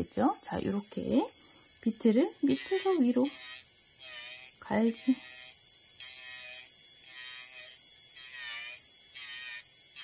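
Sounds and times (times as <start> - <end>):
electric nail drill whining: 0.0 - 10.0.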